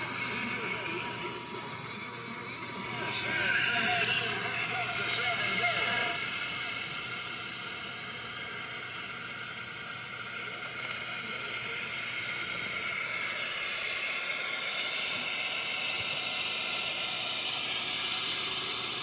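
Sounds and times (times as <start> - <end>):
faint steady tones: 0.0 - 19.0
radio static hiss: 0.0 - 19.0.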